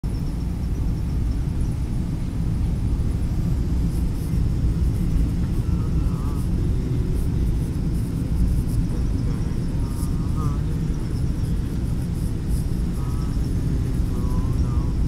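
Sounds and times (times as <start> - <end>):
airliner engine and airflow rumble: 0.0 - 15.0.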